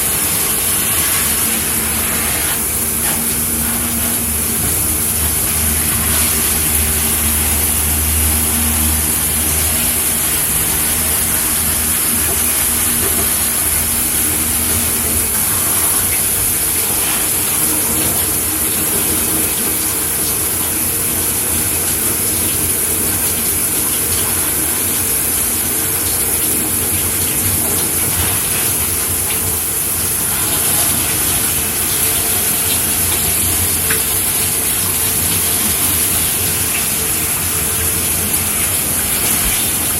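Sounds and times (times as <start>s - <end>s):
shower spraying water: 0.0s - 39.9s.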